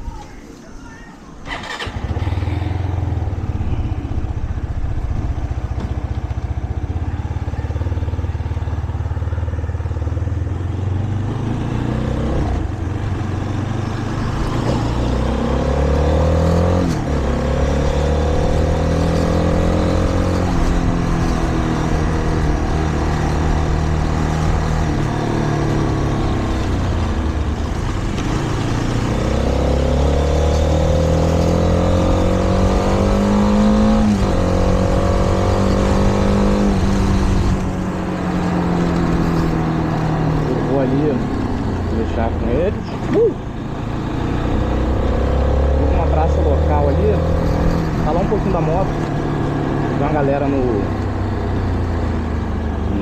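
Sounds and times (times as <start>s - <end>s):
motorcycle engine shifting gears: 1.4s - 53.0s.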